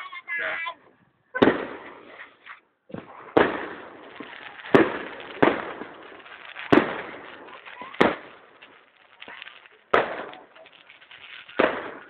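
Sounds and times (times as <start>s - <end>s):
fireworks bangs with echo: 1.4s - 2.2s, 2.9s - 12.0s.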